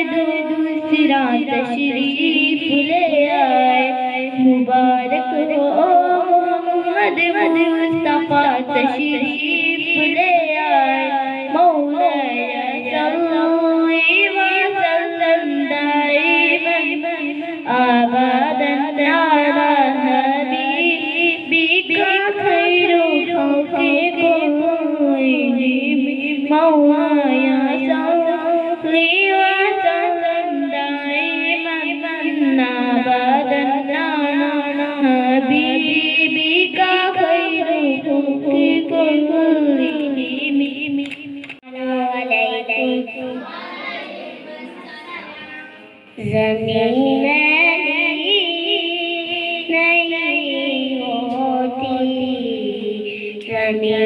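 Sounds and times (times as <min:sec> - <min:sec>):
girl singing devotional song: 0:00.0 - 0:54.0.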